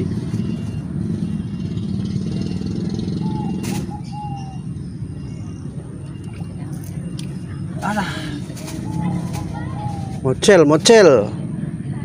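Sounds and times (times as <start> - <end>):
bird calling: 0.0 - 11.0
low engine rumble: 0.0 - 12.0.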